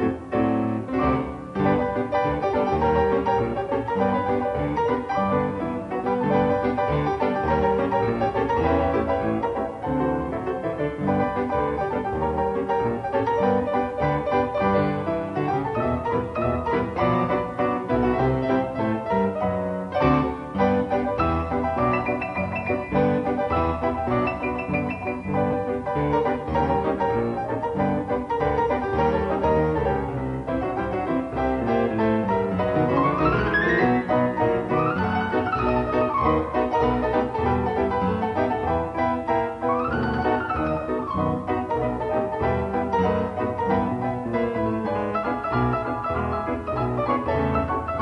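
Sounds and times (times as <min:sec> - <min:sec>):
instrumental music with keyboard lead: 0:00.0 - 0:48.0.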